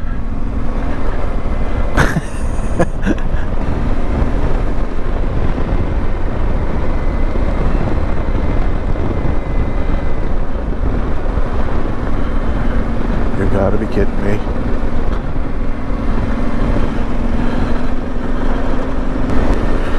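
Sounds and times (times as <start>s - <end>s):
motorcycle engine rumbling: 0.0s - 19.9s
wind rushing over microphone: 0.0s - 19.9s.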